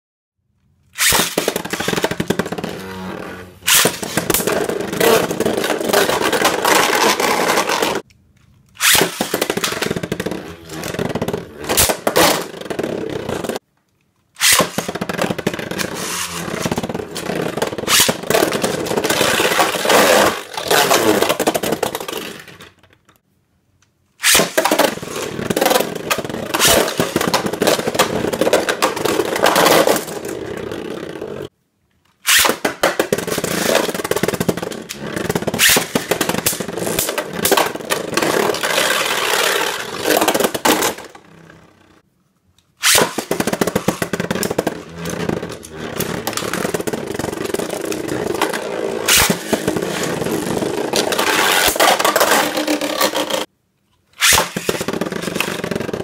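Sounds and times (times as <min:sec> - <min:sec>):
spinning tops grinding and clashing: 0:01.0 - 0:08.0, 0:08.8 - 0:13.6, 0:14.4 - 0:22.8, 0:24.2 - 0:31.5, 0:32.2 - 0:42.0, 0:42.8 - 0:53.5, 0:54.2 - 0:56.0.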